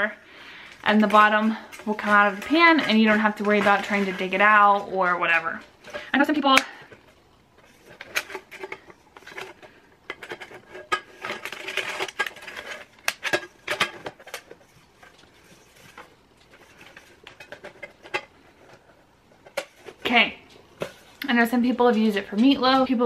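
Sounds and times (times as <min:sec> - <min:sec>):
metal rattling and scraping: 0:00.8 - 0:06.2, 0:06.9 - 0:23.0.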